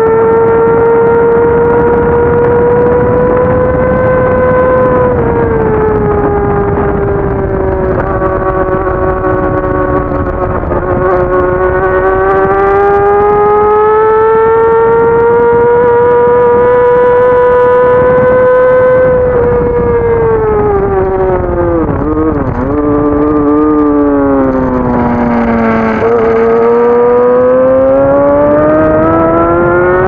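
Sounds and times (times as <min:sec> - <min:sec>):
motorbike engine running hard: 0:00.0 - 0:30.0
wind rush: 0:00.0 - 0:30.0.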